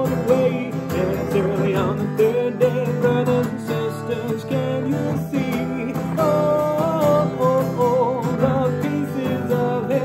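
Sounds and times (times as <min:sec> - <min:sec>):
acoustic guitar strumming: 0:00.0 - 0:10.0
man singing: 0:00.0 - 0:10.0.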